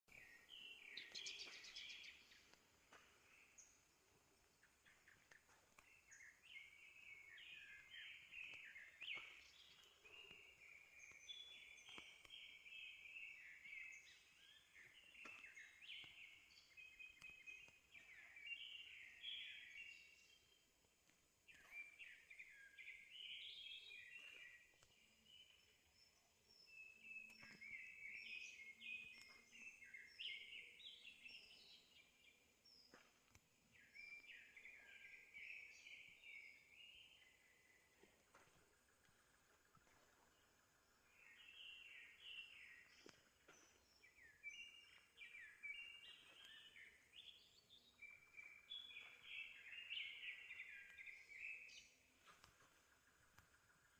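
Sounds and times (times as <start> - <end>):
faint birdsong chirps: 0.0 - 53.9.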